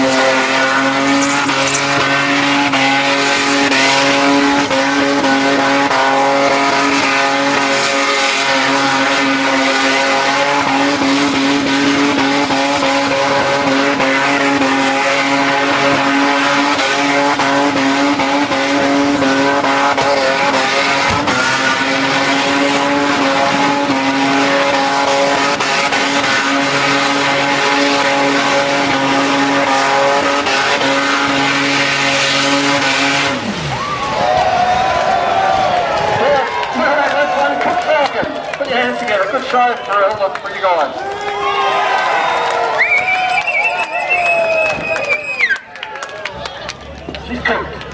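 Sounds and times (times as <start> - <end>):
car engine at high revs: 0.0 - 40.6.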